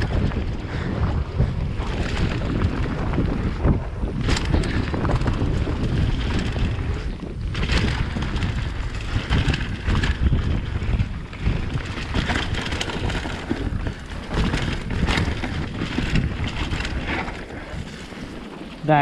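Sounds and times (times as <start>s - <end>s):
bike knocking and rattling: 0.0s - 19.0s
bike tyres over dry leaves: 0.0s - 19.0s
wind buffeting microphone: 0.0s - 19.0s.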